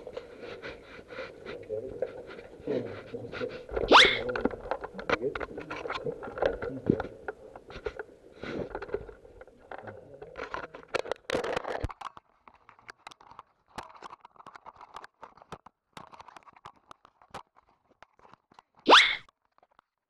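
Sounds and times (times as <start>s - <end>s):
rustling and scraping of gear: 0.0s - 20.0s.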